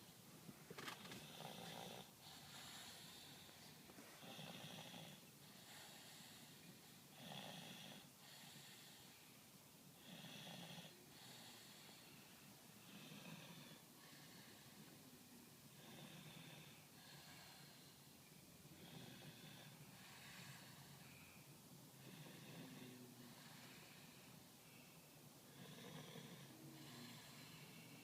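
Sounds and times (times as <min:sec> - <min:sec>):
soft breaths: 0:00.0 - 0:28.0.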